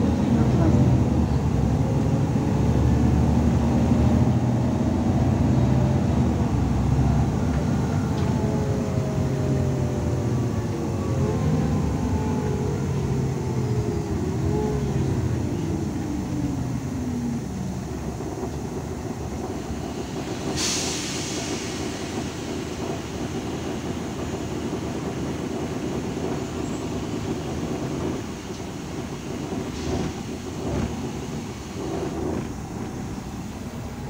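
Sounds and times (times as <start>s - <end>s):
bus drivetrain whine: 0.0s - 34.0s
bus road and engine noise: 0.0s - 34.0s.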